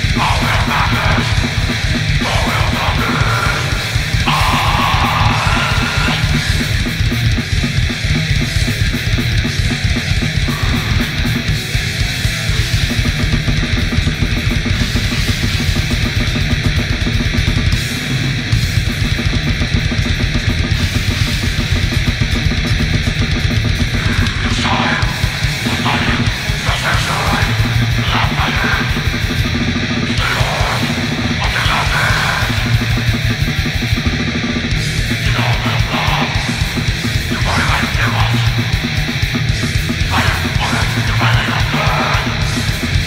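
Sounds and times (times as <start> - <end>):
distorted guitars: 0.0 - 43.0
fast dense drumming: 0.0 - 43.0
higher guitar part: 0.0 - 43.0.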